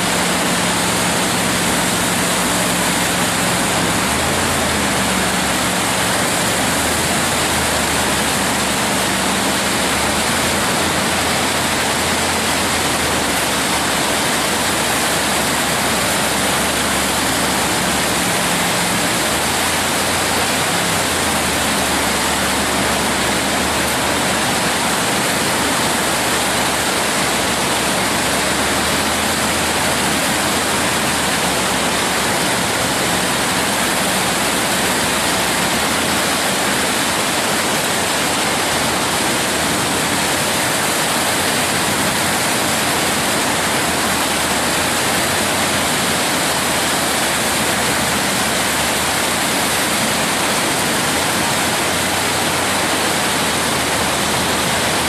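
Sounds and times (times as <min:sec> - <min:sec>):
whitewater rapid rushing: 0:00.0 - 0:55.0.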